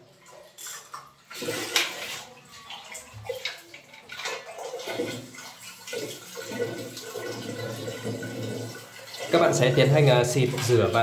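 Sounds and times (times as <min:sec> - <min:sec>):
water spraying and splashing in tank: 0:00.0 - 0:11.0.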